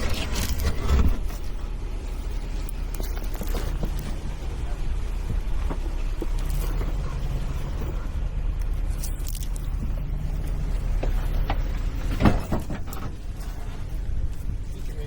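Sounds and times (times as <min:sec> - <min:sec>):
truck engine running low: 0:00.0 - 0:15.0.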